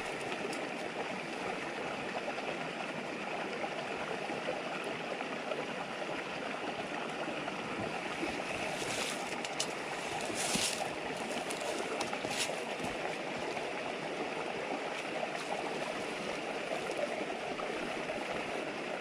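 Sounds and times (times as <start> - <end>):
shallow river babbling: 0.0 - 19.0.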